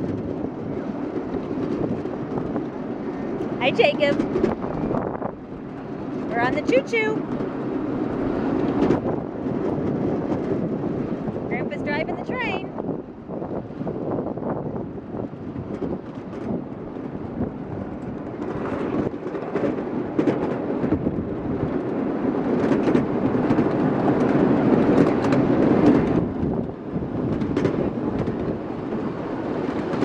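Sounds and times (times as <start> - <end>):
miniature train wheels rumbling: 0.0 - 30.0
wheel clacks on rail: 0.0 - 30.0.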